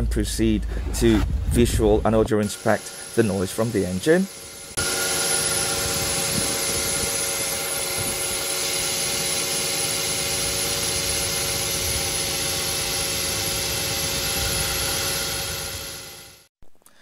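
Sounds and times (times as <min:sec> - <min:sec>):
drive belt squealing: 0:02.4 - 0:16.4.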